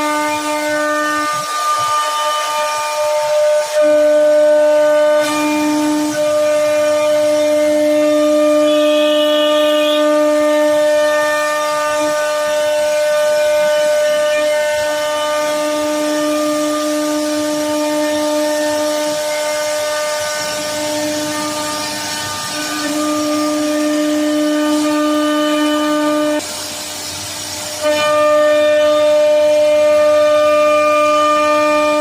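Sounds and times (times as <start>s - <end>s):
router spindle whining: 0.0s - 32.0s.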